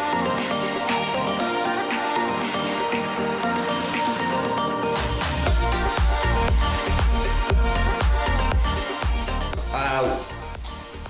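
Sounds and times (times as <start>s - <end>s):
music with heavy bass: 0.0s - 11.0s.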